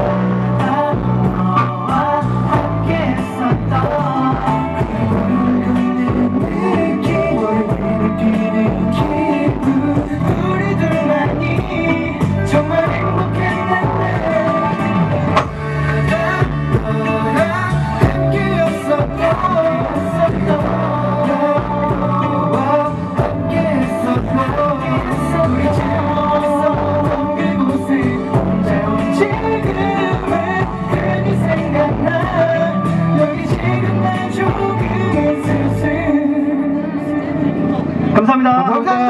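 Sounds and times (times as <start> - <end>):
male vocal group singing: 0.0 - 38.0
instrumental backing track: 0.0 - 39.0.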